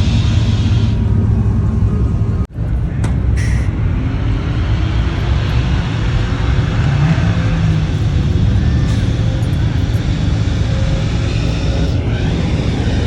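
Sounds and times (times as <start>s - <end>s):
pickup truck engine and road rumble: 0.0s - 13.0s.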